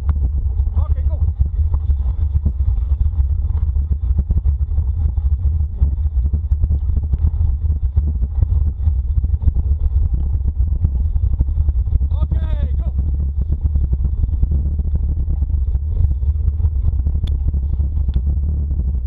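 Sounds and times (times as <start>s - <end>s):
wheeled rig rattling over dirt: 0.0s - 19.0s
wind buffeting microphone: 0.0s - 19.0s.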